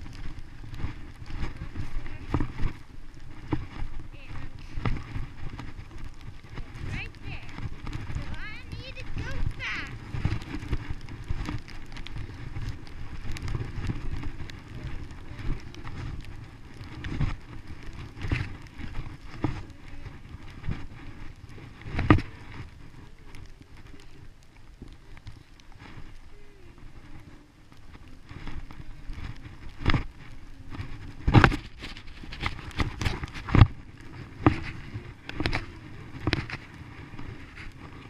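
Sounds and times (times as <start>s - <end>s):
skis knocking on bumps: 0.0s - 26.3s, 27.8s - 38.0s
skis sliding over snow: 0.0s - 38.0s
wind rumble on microphone: 0.0s - 38.0s.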